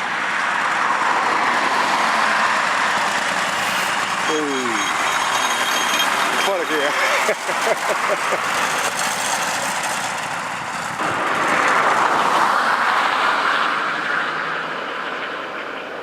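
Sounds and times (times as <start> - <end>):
tractor engine under heavy load: 0.0 - 14.2.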